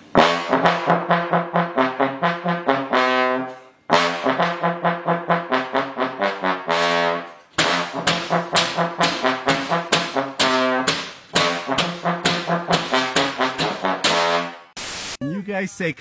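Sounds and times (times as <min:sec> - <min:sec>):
trombone playing short notes: 0:00.1 - 0:14.7.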